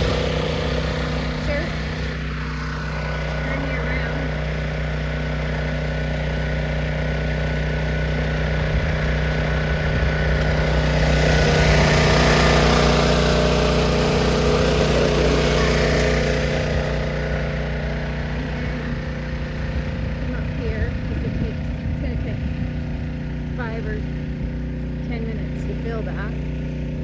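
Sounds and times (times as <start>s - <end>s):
small gasoline engine running: 0.0s - 27.0s.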